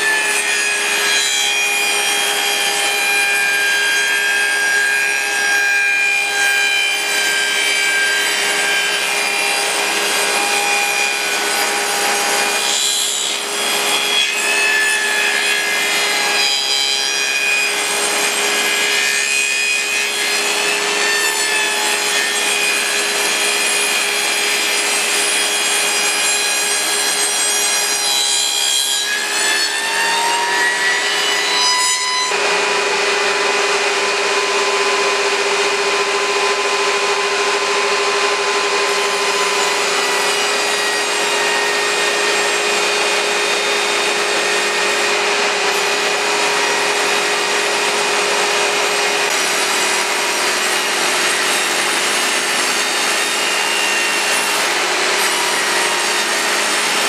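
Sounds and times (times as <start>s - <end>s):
table saw ripping wood: 0.0s - 57.0s.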